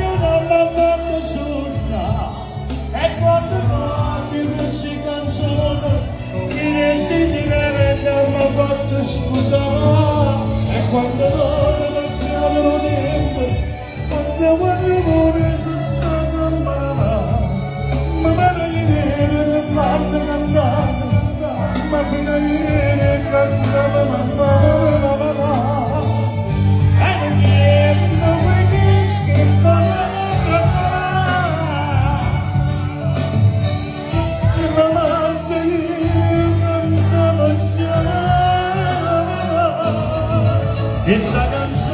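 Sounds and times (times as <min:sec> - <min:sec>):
band with drums bass and keyboard: 0:00.0 - 0:41.9
man singing into microphone: 0:00.0 - 0:41.9.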